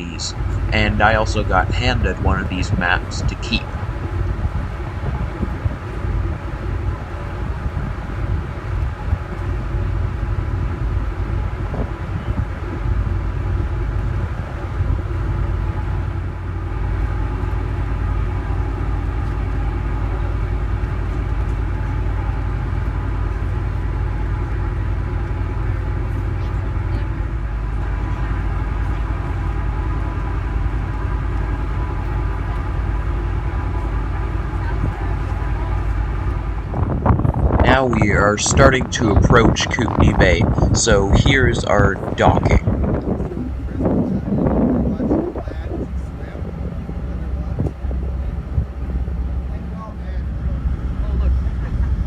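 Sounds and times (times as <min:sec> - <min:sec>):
ferry engines droning: 0:00.0 - 0:52.0.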